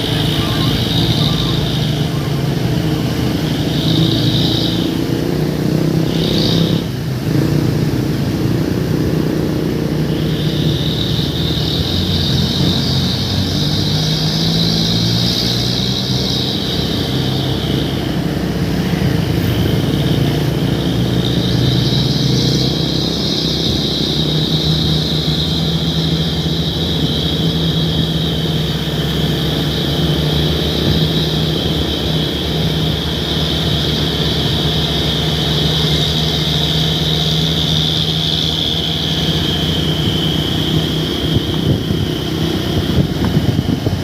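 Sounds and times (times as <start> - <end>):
high whistle: 0.0 - 7.0, 9.5 - 43.8
truck engine drone: 0.0 - 44.0.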